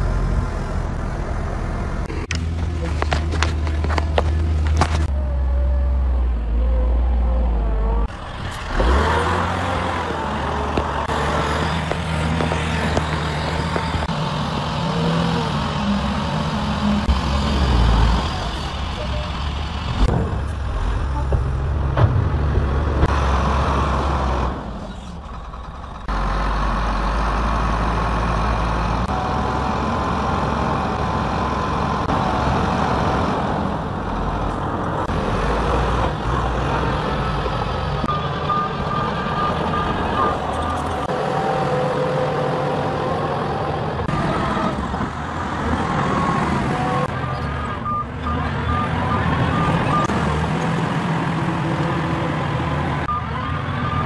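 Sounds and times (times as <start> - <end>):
heavy diesel engines under load: 0.0 - 54.0.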